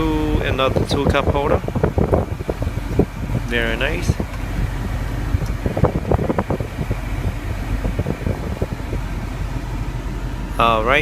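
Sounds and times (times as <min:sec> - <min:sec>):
car ventilation fan humming: 0:00.0 - 0:11.0.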